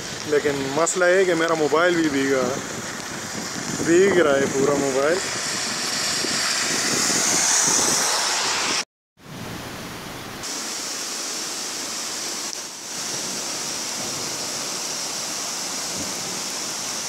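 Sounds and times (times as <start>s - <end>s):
heavy rain and wind hiss: 0.0s - 17.0s.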